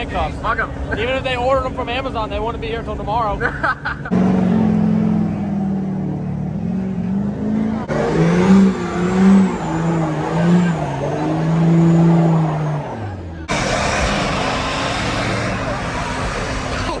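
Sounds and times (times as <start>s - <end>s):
pickup truck engines revving: 0.0s - 17.0s.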